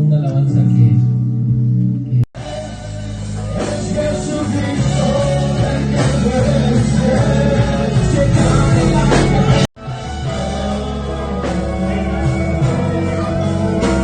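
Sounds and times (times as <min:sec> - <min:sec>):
worship song with full band: 0:00.0 - 0:14.0
person singing melody: 0:02.1 - 0:14.0.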